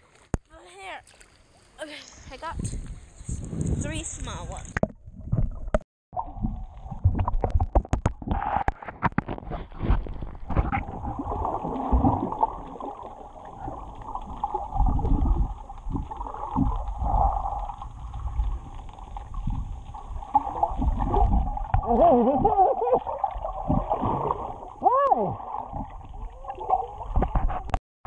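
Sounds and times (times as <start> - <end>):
sharp knocks and splashes: 0.0 - 1.7, 4.6 - 27.8
muffled sea water sloshing: 4.0 - 27.7.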